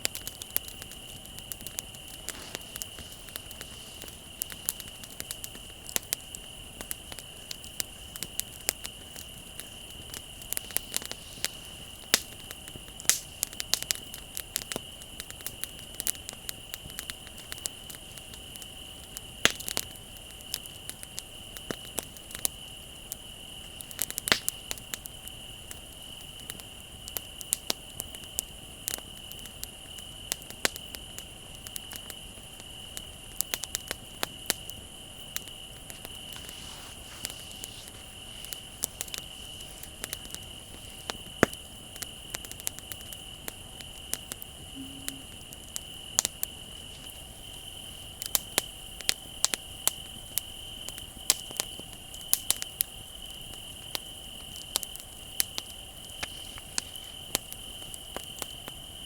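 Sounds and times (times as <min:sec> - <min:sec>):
crickets trilling: 0:00.0 - 0:59.0
wood fire crackling and popping: 0:00.0 - 0:59.0.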